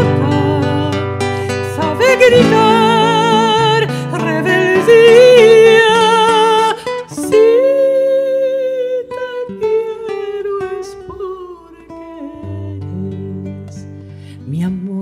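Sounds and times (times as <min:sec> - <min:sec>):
plucked acoustic guitar: 0:00.0 - 0:15.0
woman singing with vibrato: 0:00.0 - 0:15.0.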